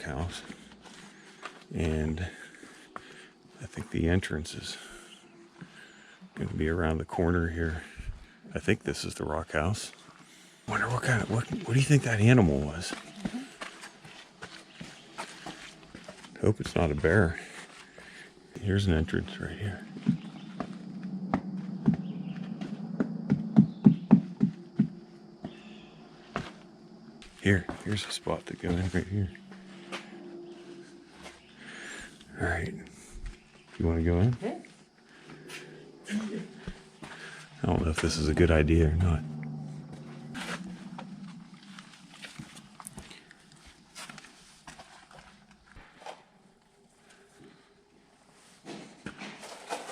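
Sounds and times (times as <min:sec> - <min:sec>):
footsteps on trail: 0:00.0 - 0:08.4, 0:09.9 - 0:47.4
faint bird sounds: 0:00.0 - 0:48.7.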